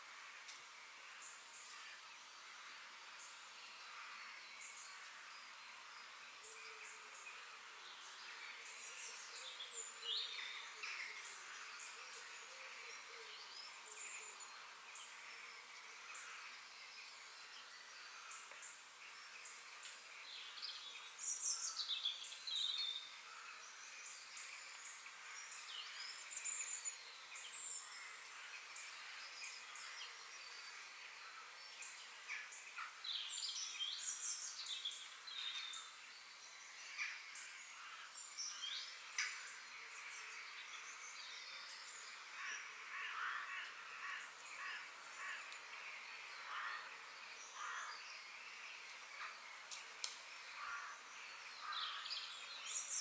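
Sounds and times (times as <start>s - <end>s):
songbirds chirping: 0.0s - 53.0s
steady outdoor hiss: 0.0s - 53.0s.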